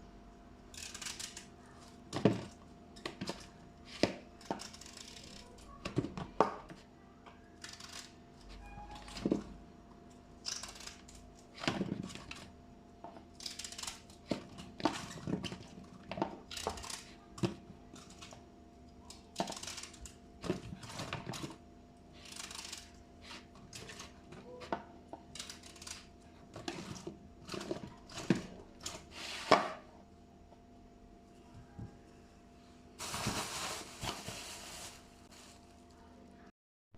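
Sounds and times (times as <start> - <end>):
faint steady hum: 0.0 - 36.5.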